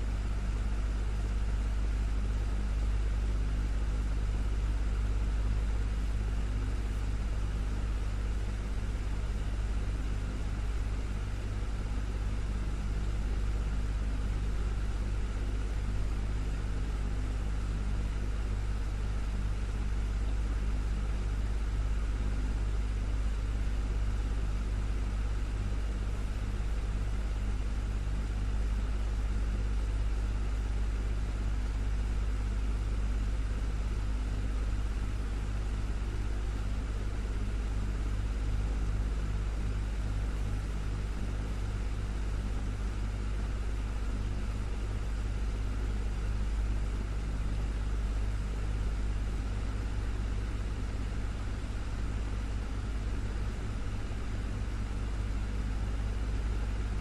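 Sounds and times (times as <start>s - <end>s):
desktop fan running: 0.0s - 57.0s.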